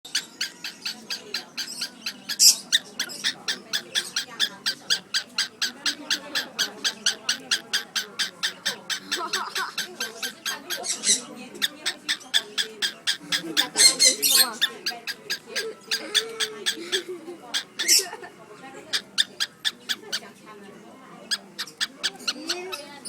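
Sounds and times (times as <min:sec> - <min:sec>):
cockatiel chirping: 0:00.1 - 0:18.1, 0:18.9 - 0:20.2, 0:21.3 - 0:22.9
cockatiel calling: 0:00.1 - 0:18.2, 0:18.8 - 0:20.3, 0:21.3 - 0:22.9.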